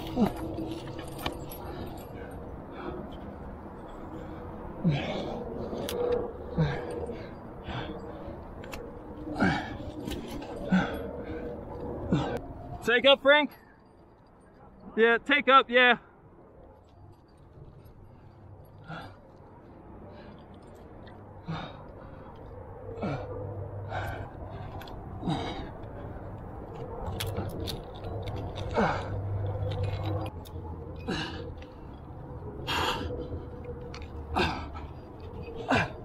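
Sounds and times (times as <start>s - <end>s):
man breathing hard and grunting: 0.0s - 12.6s, 18.7s - 36.0s.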